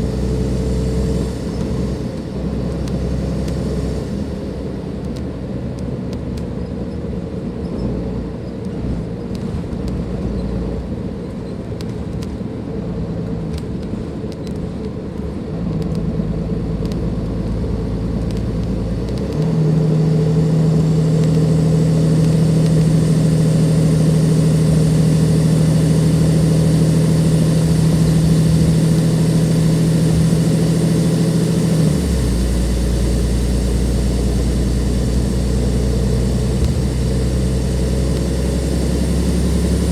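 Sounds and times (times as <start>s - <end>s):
bus diesel engine drone: 0.0s - 39.9s
faint turbo whine: 0.0s - 39.9s.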